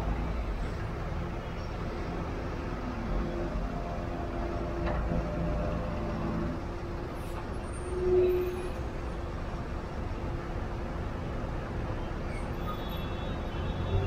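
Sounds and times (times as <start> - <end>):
traffic engines rumbling: 0.0 - 14.0.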